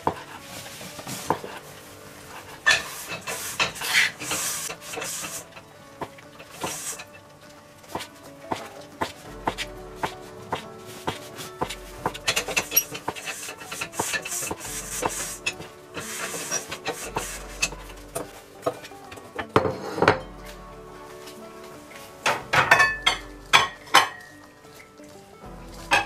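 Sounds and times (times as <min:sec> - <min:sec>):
metal pot and lid clanking: 0:00.0 - 0:20.6, 0:21.2 - 0:25.0, 0:25.6 - 0:26.0.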